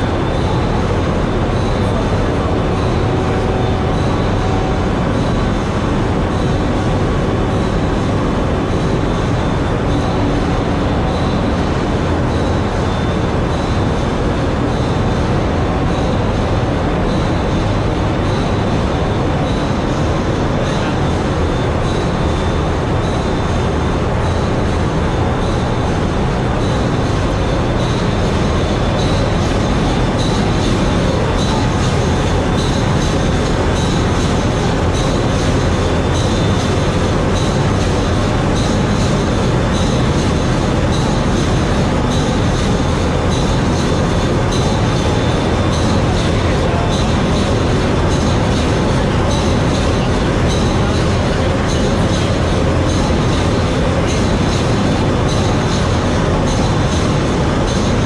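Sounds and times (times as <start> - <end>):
ship engine room machinery din: 0.0 - 58.0.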